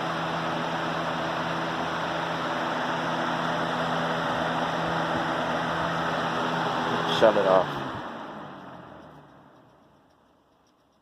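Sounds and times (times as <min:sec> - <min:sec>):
box fan running: 0:00.0 - 0:11.0.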